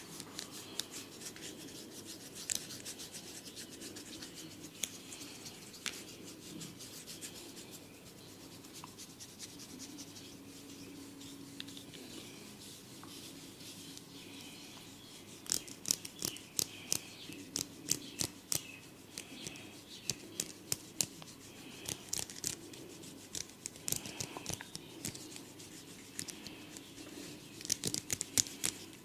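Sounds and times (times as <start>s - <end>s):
rubbing hair and scalp: 0.0s - 29.0s.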